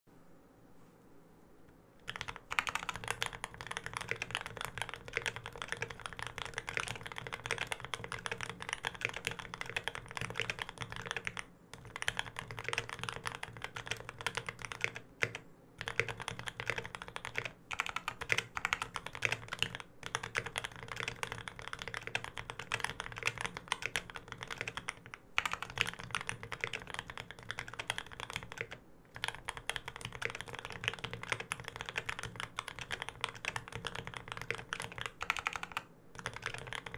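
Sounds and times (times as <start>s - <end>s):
fast mechanical keyboard typing: 2.0s - 36.9s.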